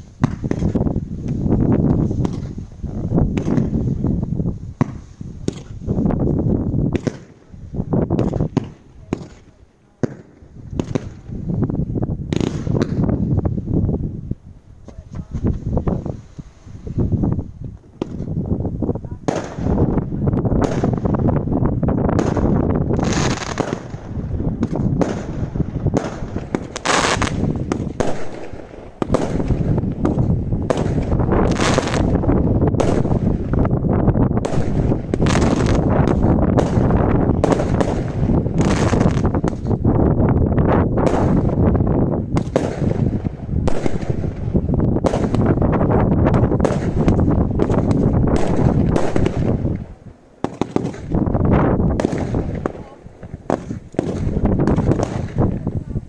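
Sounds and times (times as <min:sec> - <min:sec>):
firework bangs: 0:00.0 - 0:13.8, 0:14.8 - 0:56.0.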